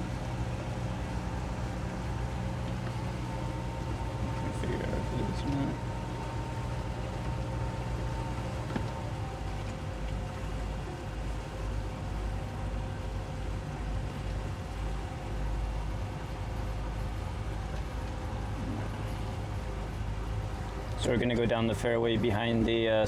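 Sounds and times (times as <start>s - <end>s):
outboard motors running: 0.0s - 23.0s.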